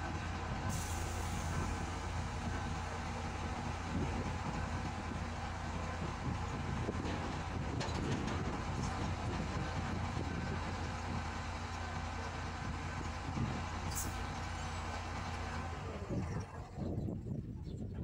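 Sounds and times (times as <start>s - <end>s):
diesel engine humming: 0.0s - 17.5s.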